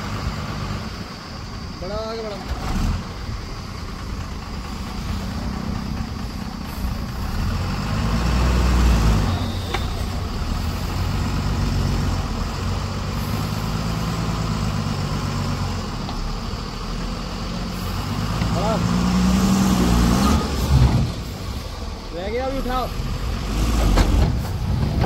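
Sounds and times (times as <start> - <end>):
backhoe diesel engine running: 0.0 - 25.0.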